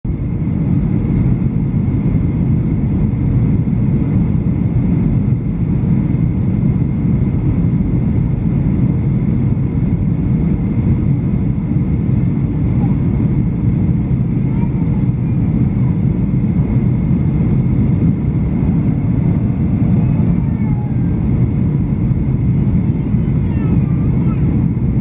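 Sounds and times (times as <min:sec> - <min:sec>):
aircraft cabin rumble: 0:00.0 - 0:25.0.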